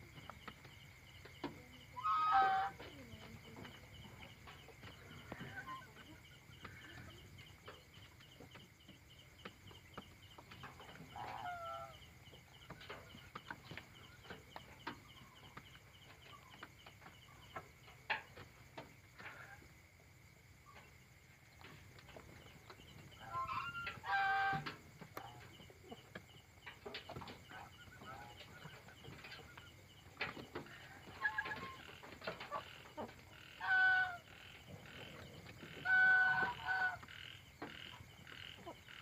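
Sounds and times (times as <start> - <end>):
chickens soft calls: 0.0 - 19.8, 21.5 - 39.0.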